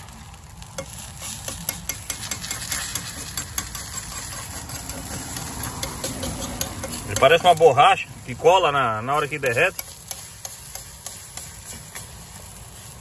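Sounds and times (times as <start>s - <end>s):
egg frying in a pan: 0.0s - 13.0s.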